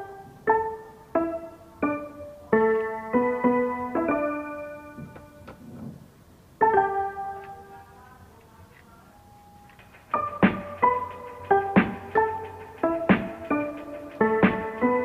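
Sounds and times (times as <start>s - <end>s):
piano music: 0.0s - 8.3s, 9.0s - 15.0s.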